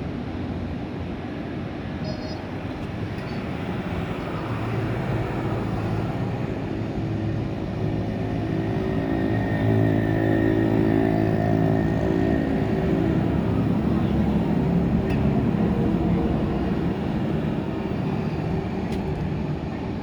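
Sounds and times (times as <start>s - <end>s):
continuous rushing noise: 0.0s - 20.0s
engine humming: 1.4s - 20.0s.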